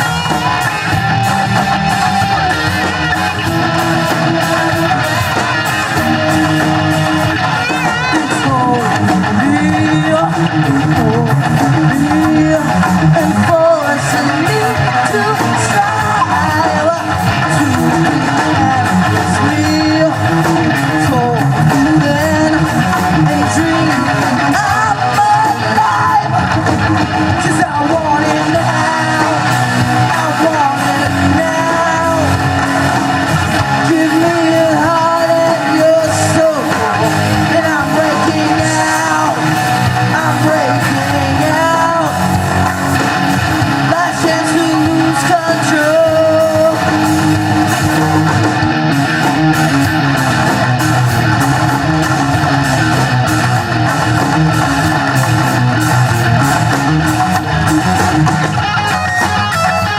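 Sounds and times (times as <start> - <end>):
lead vocal singing: 0.0 - 59.9
rock band playing: 0.0 - 59.9.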